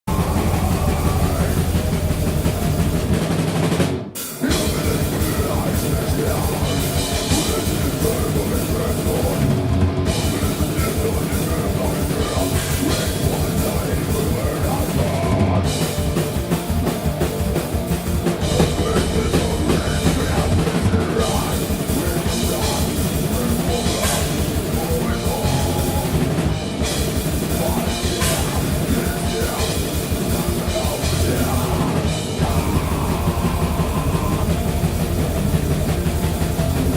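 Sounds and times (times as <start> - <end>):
death metal band playing: 0.0 - 36.9
distorted guitars and bass: 0.0 - 36.9
rapid kick drum: 0.0 - 36.9.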